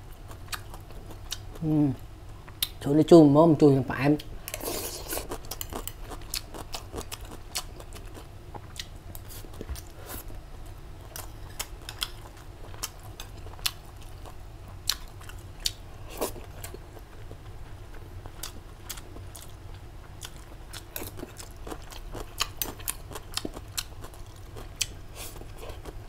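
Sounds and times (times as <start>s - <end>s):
person chewing food: 0.2s - 1.7s, 4.5s - 26.0s.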